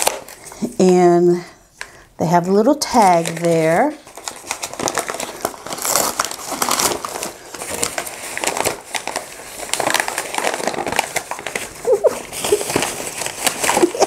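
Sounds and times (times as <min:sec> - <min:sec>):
paper wrap crinkling: 0:00.0 - 0:01.1, 0:02.5 - 0:14.0.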